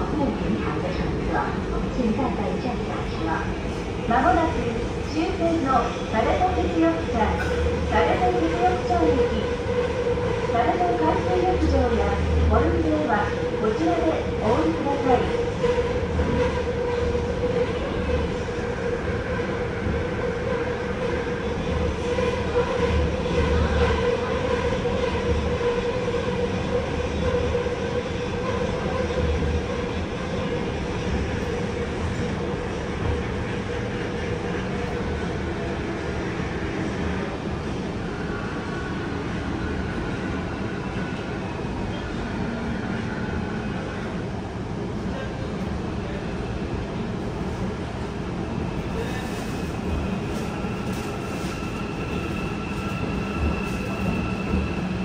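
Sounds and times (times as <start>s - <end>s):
subway wheels rumbling on rail: 0.0s - 55.0s.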